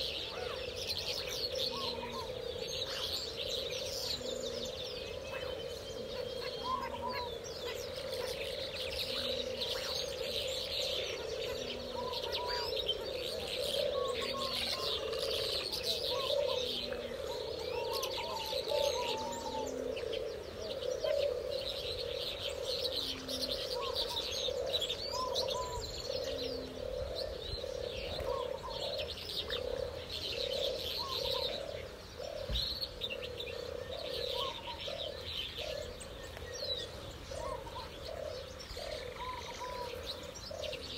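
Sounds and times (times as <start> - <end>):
doves cooing: 0.0 - 40.9
lower bird calls: 0.0 - 40.9.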